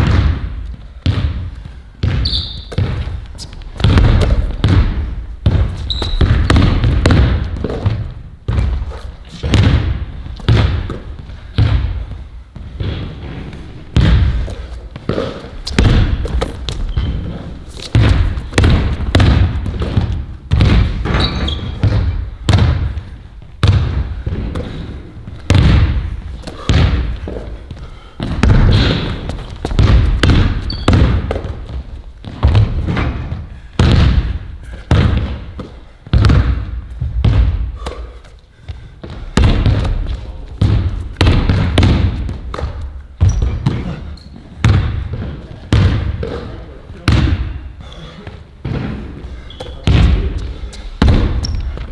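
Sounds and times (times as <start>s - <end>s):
ball bouncing on hard floor: 0.0s - 47.6s, 48.6s - 51.9s.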